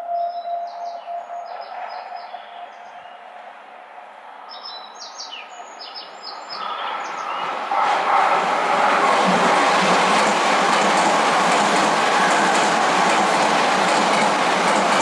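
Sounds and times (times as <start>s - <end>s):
approaching train: 0.0s - 15.0s.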